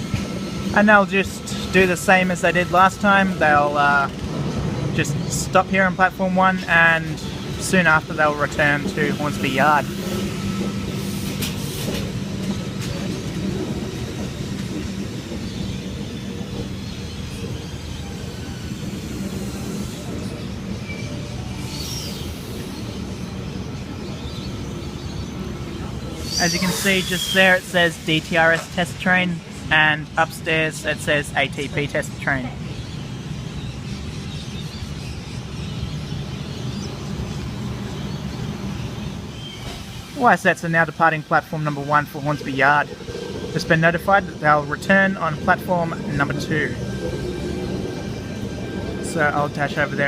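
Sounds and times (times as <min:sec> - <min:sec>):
electric train low hum: 0:00.0 - 0:50.0.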